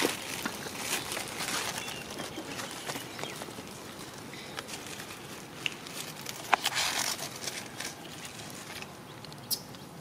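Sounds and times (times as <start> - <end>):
leaves and twigs rustling: 0.0 - 9.9.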